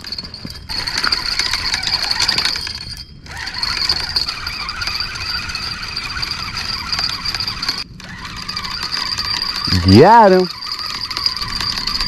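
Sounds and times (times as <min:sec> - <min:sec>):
fishing reel whirring: 0:00.0 - 0:12.0.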